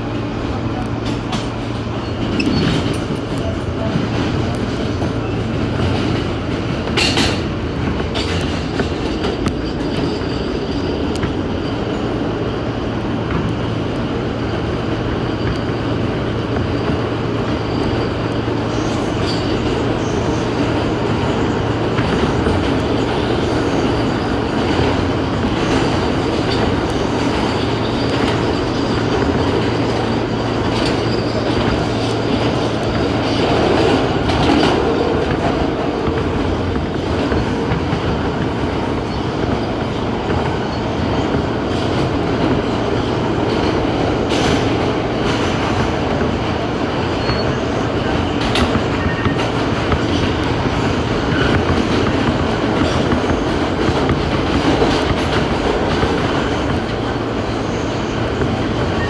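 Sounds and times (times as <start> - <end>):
train wheels rumbling on rail: 0.0 - 59.0
wheels clacking over rail joints: 0.0 - 59.0.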